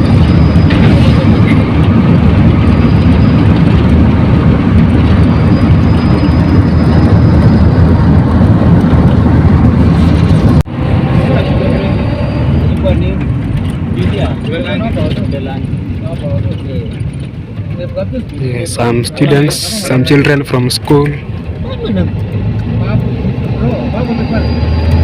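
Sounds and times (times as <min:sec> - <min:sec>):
vehicle rumble at road speed: 0:00.0 - 0:25.0.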